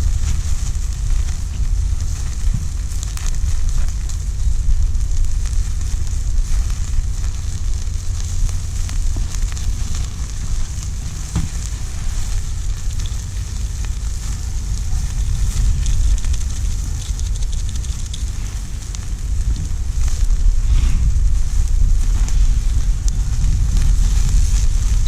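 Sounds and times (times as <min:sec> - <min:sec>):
burning wood crackling: 0:00.0 - 0:25.0
low rumble: 0:00.0 - 0:25.0
meat sizzling: 0:00.0 - 0:25.0.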